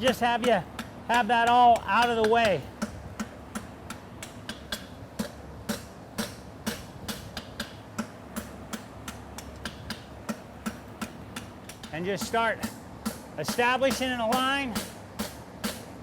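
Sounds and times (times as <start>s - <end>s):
hammer striking steel on anvil: 0.0s - 15.9s.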